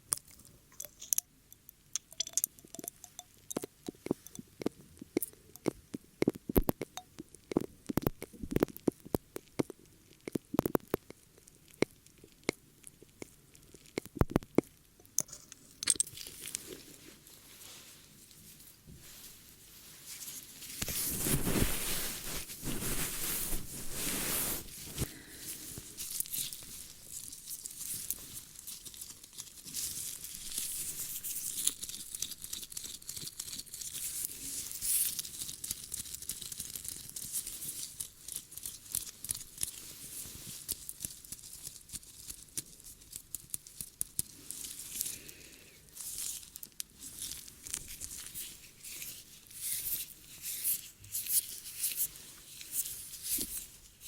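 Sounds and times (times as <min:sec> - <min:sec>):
crackling and scratching on microphone: 0:02.0 - 0:45.1, 0:46.0 - 0:54.0.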